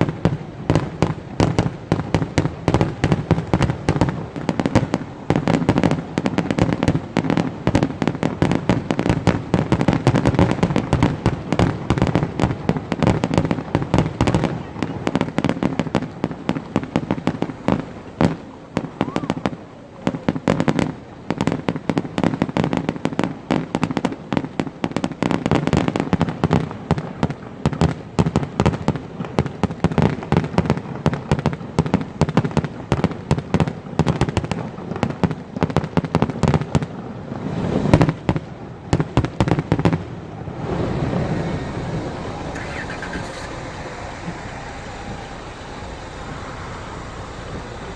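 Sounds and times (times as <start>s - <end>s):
background rumble: 0.0s - 47.9s
fireworks bangs and crackles: 0.0s - 47.9s.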